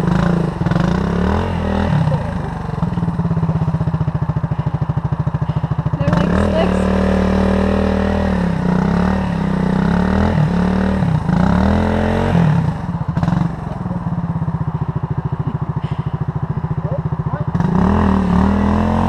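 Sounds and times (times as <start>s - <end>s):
motorcycle engine idling: 0.0s - 19.0s
motorcycle engine revving: 0.0s - 19.0s.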